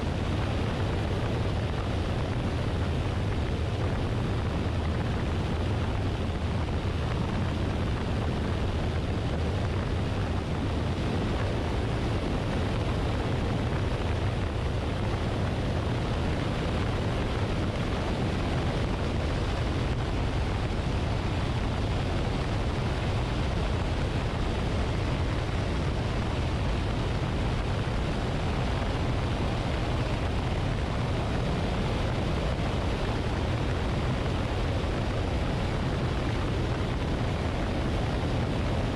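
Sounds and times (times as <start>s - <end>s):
airplane engine and propeller drone: 0.0s - 38.9s
wind rushing over microphone: 0.0s - 38.9s.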